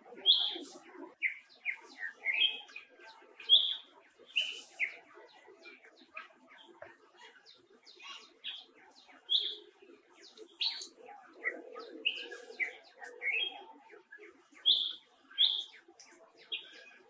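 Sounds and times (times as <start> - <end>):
low animal chatter: 0.0 - 17.0.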